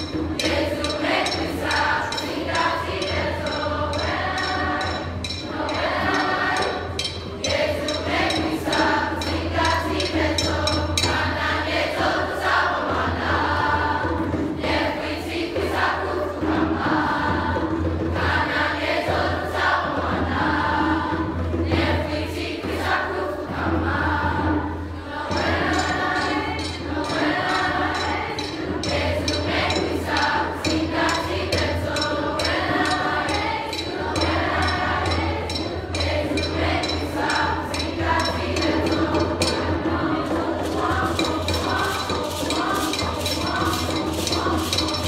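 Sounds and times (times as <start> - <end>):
children's choir singing: 0.0 - 45.0.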